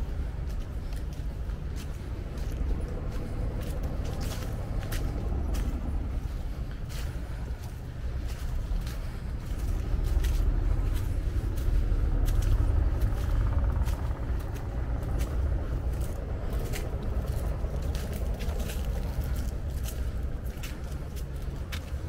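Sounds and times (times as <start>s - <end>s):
dry leaves crunching: 0.0s - 22.0s
footsteps on stone: 0.0s - 22.0s
low rumble: 0.0s - 22.0s.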